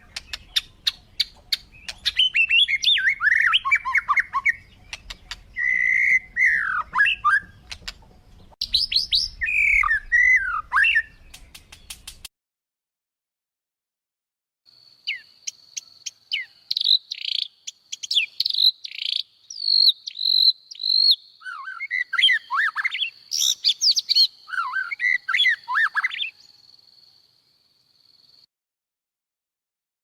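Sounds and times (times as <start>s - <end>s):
small birds chirping: 0.0s - 12.3s, 14.7s - 28.5s.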